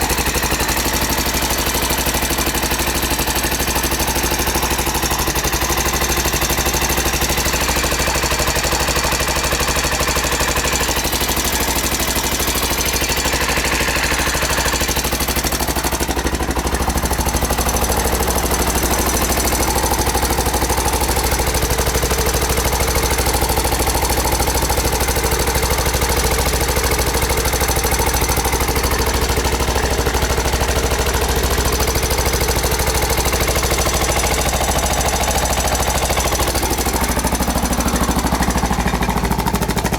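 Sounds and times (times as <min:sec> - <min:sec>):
motorcycle engine clattering: 0:00.0 - 0:39.9.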